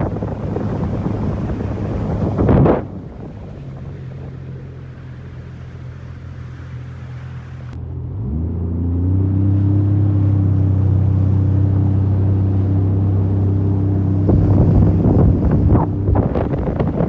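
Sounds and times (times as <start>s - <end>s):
watercraft engine revving: 0.0s - 17.0s.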